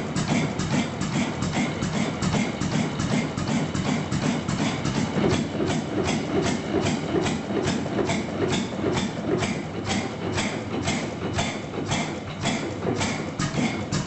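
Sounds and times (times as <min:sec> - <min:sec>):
stationary engine knocking: 0:00.0 - 0:14.0.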